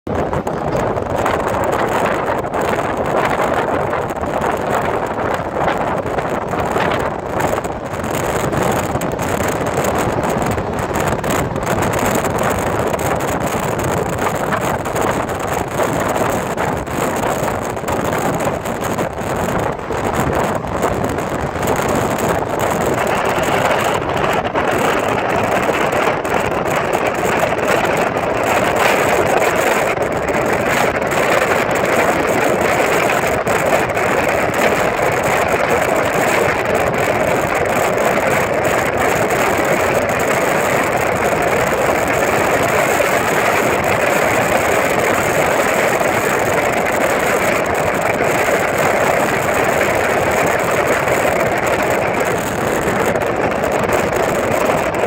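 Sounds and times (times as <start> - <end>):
train rushing at speed: 0.1 - 55.0
wind buffeting microphone: 0.1 - 55.0.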